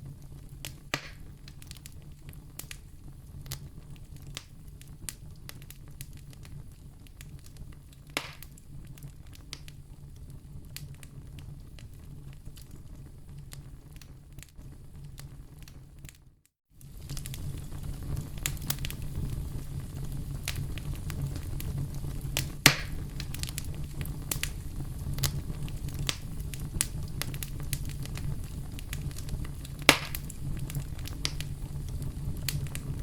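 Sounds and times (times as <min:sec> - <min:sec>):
campfire crackling: 0:00.0 - 0:16.1, 0:16.8 - 0:33.0
fire popping: 0:00.0 - 0:33.0.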